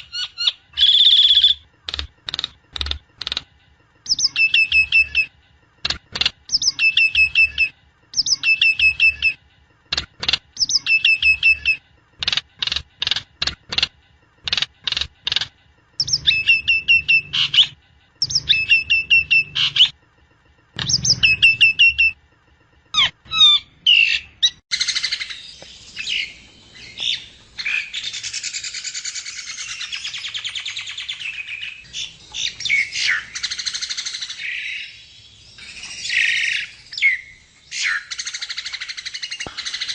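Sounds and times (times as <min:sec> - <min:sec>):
songbird singing: 0:00.0 - 0:09.4, 0:10.3 - 0:11.8, 0:14.5 - 0:20.0, 0:20.8 - 0:22.2, 0:23.0 - 0:39.9.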